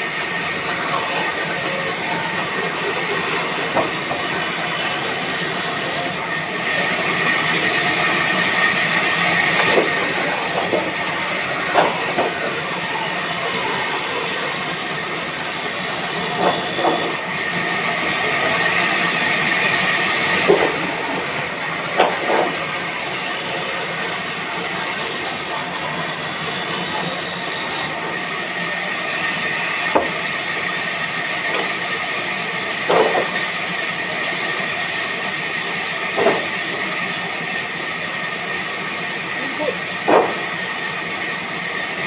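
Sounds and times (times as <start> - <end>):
sawmill machinery hissing: 0.0 - 42.0.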